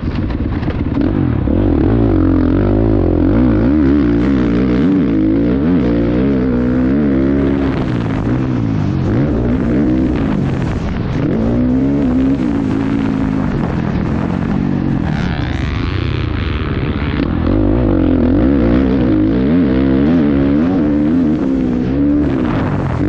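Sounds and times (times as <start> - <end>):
motocross bike engine revving: 0.6 - 23.0.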